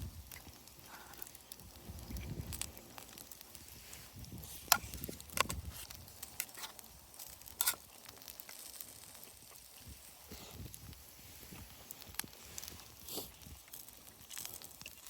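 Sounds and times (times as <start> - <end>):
campfire crackling: 0.0 - 15.0
sharp fire pops: 0.0 - 15.0.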